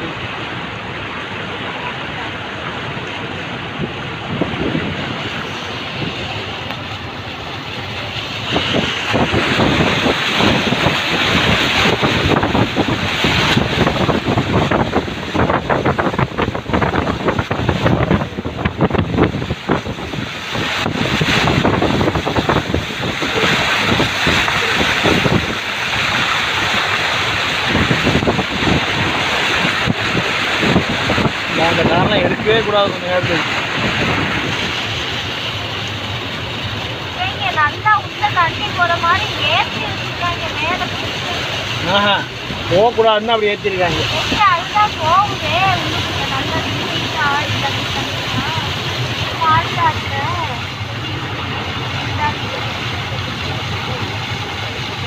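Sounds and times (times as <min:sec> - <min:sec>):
car wading through floodwater: 0:00.0 - 0:55.0
water splashing against car: 0:00.0 - 0:55.0.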